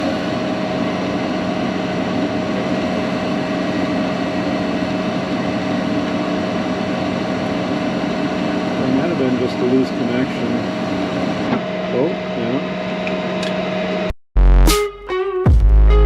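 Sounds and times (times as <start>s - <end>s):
machine drone: 0.0s - 14.2s.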